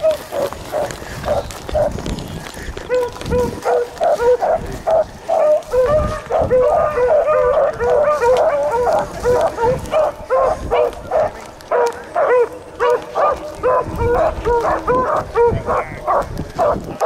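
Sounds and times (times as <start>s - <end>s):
hounds barking: 0.0s - 17.0s.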